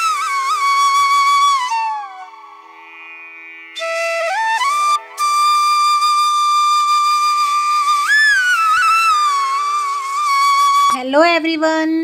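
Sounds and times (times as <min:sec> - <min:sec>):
solo flute melody: 0:00.0 - 0:03.0, 0:03.8 - 0:11.1.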